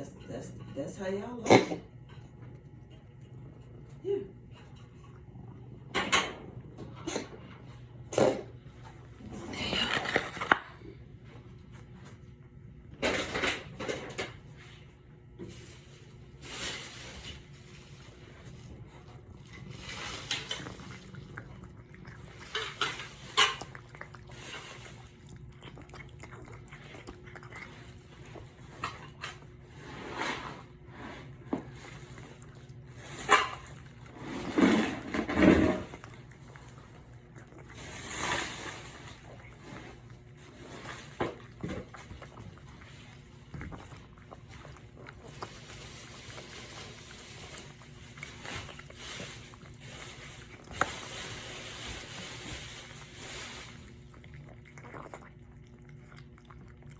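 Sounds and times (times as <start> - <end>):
cats licking and chewing: 0.0 - 56.9.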